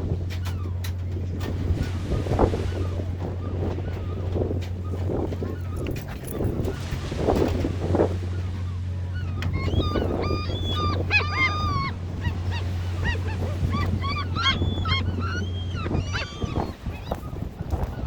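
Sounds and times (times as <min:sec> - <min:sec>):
boat engine hum: 0:00.0 - 0:18.0
gulls squawking: 0:00.1 - 0:18.0.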